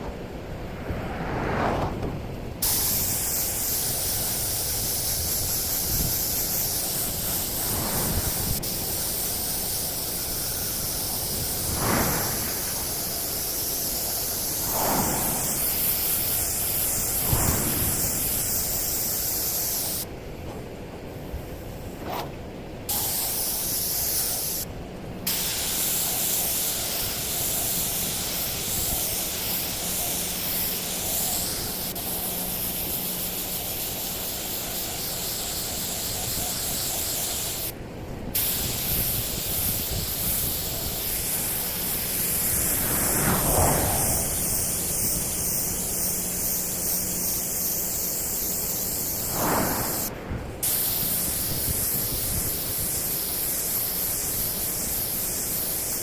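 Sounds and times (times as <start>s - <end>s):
paint spray gun hissing: 2.6s - 20.0s, 22.9s - 24.7s, 25.3s - 37.8s, 38.4s - 56.0s.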